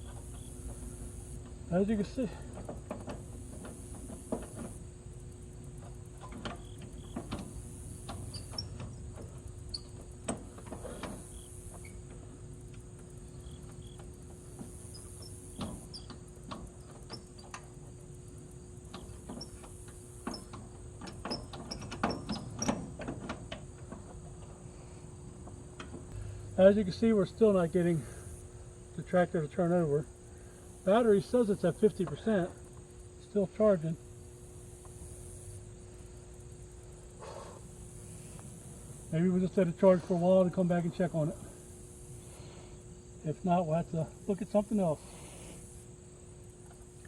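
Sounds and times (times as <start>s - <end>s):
crickets chirping: 0.0s - 47.0s
faint steady hum: 0.0s - 47.0s.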